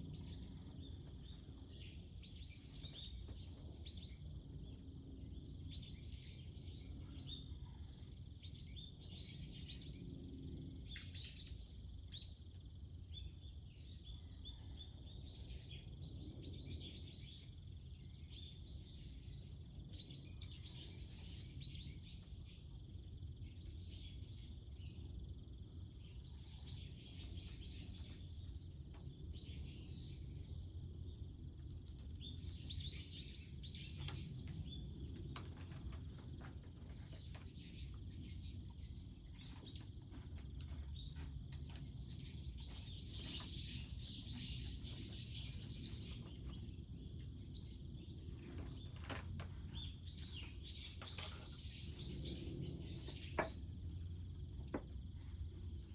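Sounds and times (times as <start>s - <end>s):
low outdoor rumble: 0.0s - 55.9s
wild birds chirping: 0.0s - 55.9s.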